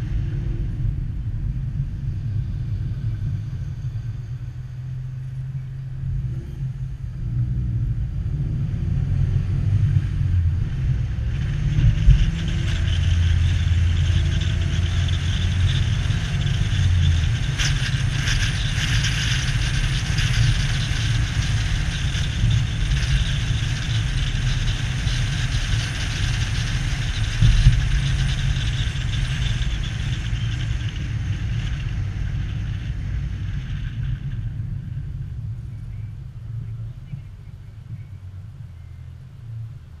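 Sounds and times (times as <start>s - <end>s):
car engine rumble: 0.0s - 40.0s
tyre and road noise: 0.0s - 40.0s.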